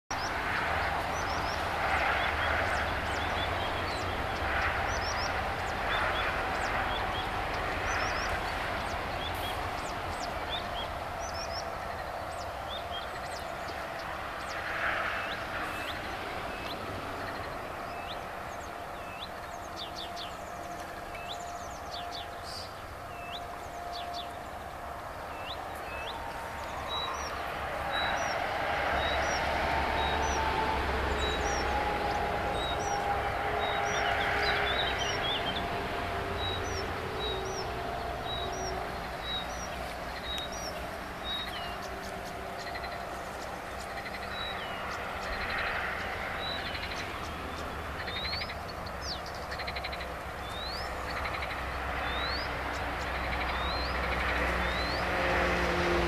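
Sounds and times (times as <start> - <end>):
warbler singing: 0.1 - 55.5.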